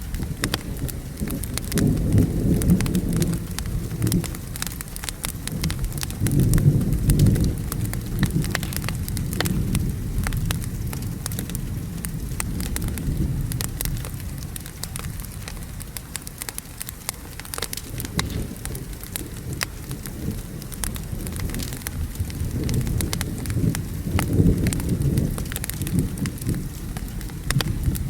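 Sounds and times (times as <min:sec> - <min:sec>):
rolling rumble of thunder: 0:00.0 - 0:16.8, 0:17.4 - 0:28.0
steady rain: 0:00.0 - 0:28.0
wood fire crackling and popping: 0:00.0 - 0:28.0.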